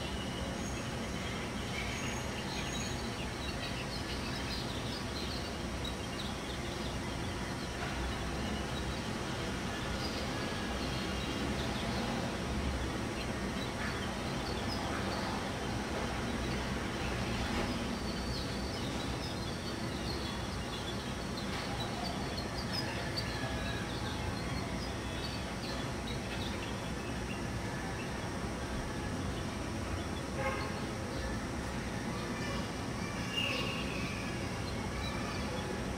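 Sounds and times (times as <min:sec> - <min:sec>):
small birds chirping: 0:00.0 - 0:35.9
steady background noise: 0:00.0 - 0:35.9.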